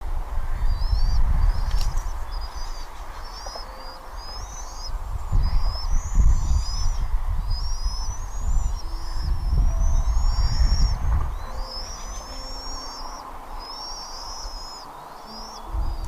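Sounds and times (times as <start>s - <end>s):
eagle chittering calls: 0.5s - 16.0s.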